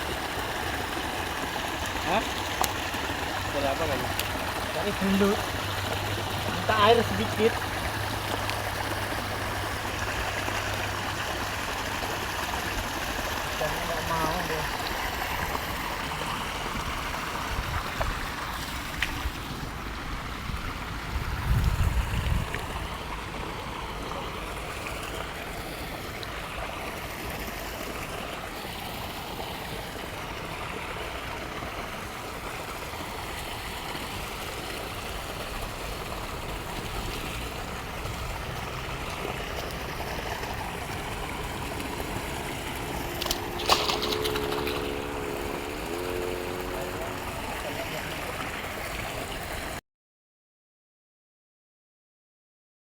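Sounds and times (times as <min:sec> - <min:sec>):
stream water rushing: 0:00.0 - 0:49.8.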